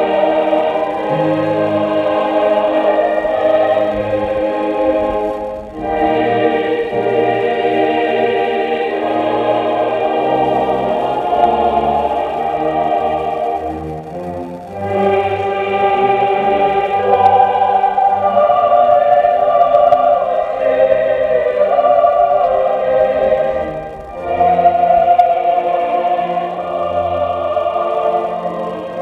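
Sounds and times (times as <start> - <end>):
choir singing held chords: 0.0 - 29.0.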